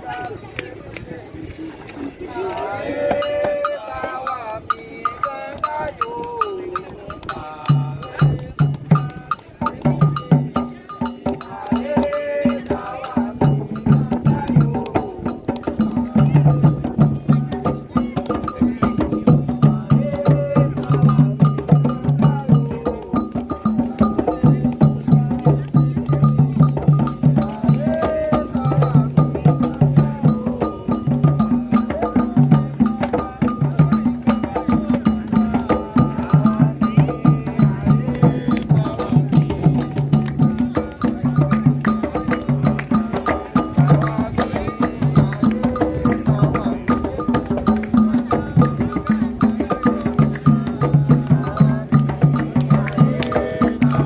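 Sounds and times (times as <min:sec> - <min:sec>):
hand drums beating: 0:03.0 - 0:54.0.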